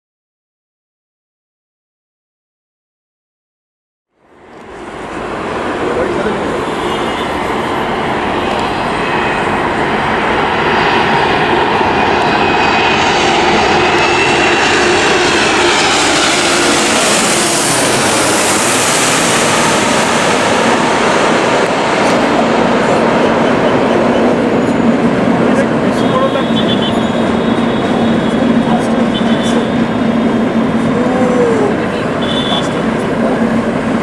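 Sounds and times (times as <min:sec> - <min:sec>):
jet airliner engine roar: 0:04.2 - 0:34.0.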